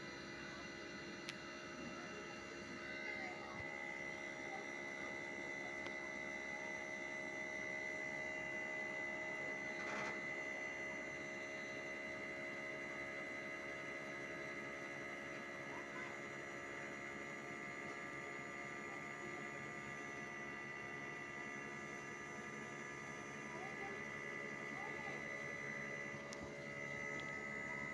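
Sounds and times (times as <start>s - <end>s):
air conditioner unit humming and whining: 0.0s - 27.9s.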